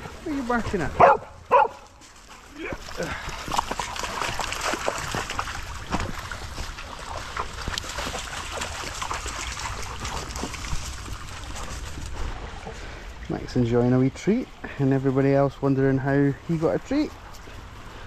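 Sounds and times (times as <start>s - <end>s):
dogs splashing and lapping water: 0.0s - 18.0s
water sloshing and trickling: 1.8s - 18.0s.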